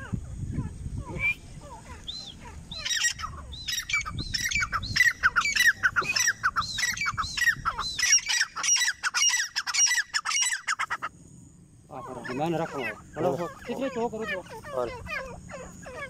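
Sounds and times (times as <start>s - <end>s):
bird calling rapidly: 0.0s - 11.2s, 11.9s - 16.0s.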